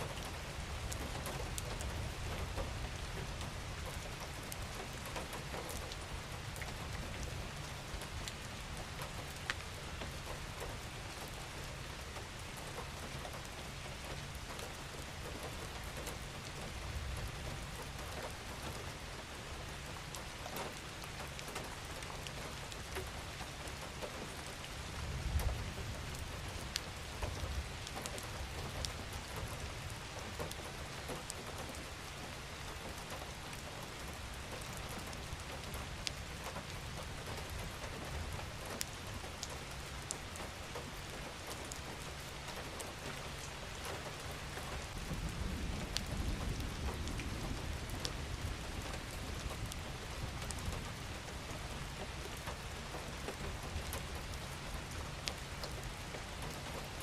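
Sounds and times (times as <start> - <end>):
rain hiss: 0.0 - 57.0
raindrop ticks: 0.0 - 57.0.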